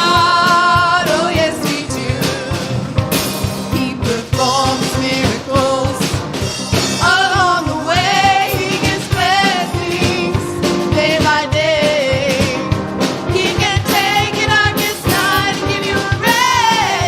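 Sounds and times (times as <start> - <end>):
drums keeping a steady beat: 0.0 - 17.0
worship band playing: 0.0 - 17.0.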